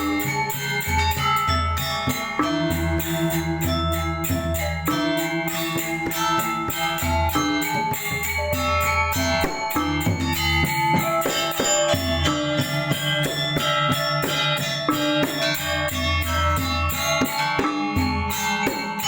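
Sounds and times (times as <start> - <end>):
metallophones struck in ringing strokes: 0.0 - 19.0.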